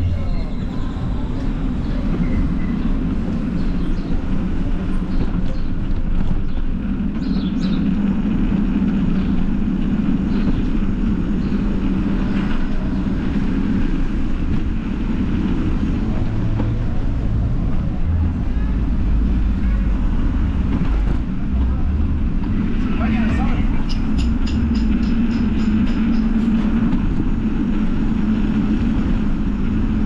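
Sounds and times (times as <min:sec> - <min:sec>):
tyres rolling on street: 0:00.0 - 0:30.0
wind buffeting microphone: 0:00.0 - 0:30.0.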